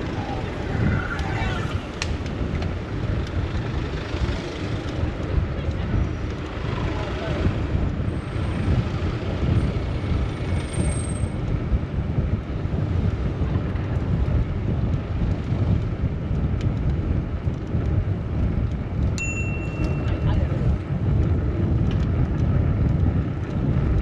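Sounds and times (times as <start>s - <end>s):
city traffic: 0.0s - 24.0s
wind rumble on microphone: 0.0s - 24.0s.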